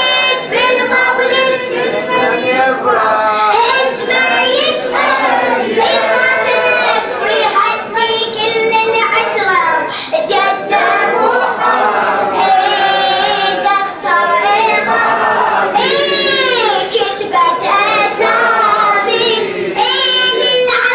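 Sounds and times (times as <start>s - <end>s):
person chanting melodically: 0.0s - 20.9s
voices singing together: 0.0s - 20.9s.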